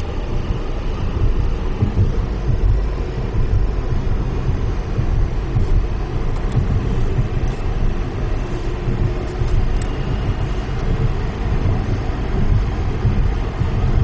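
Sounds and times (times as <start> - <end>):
road and tyre rumble: 0.0 - 14.0.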